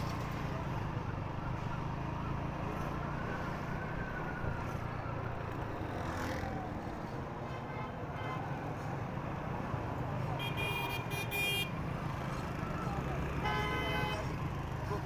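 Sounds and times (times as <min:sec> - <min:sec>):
road and wind noise: 0:00.0 - 0:15.0
rumble of other vehicles: 0:00.0 - 0:15.0.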